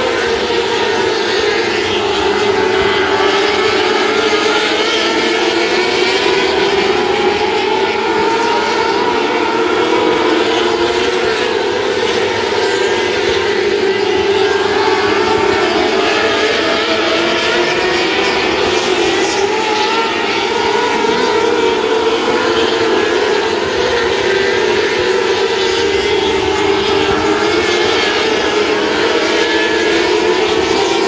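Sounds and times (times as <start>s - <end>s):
racing car engines droning: 0.0s - 31.0s.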